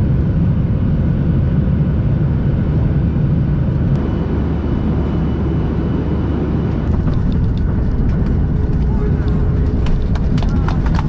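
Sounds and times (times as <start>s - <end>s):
airliner engine rumble: 0.0s - 11.0s.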